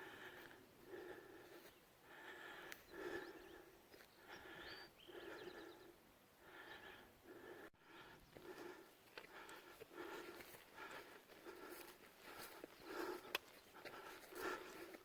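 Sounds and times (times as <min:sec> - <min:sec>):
heavy breathing: 0:00.0 - 0:15.0.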